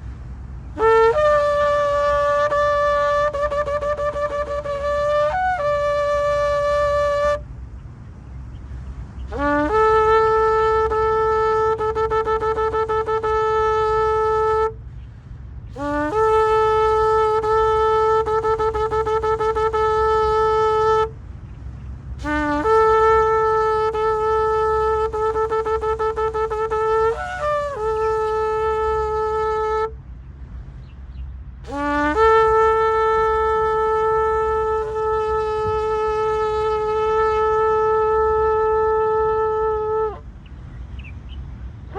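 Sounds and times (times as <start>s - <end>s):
steady low rumble: 0.0s - 41.9s
ram's horn blowing long notes: 0.6s - 7.5s, 9.2s - 21.4s, 22.1s - 30.2s, 31.6s - 40.4s.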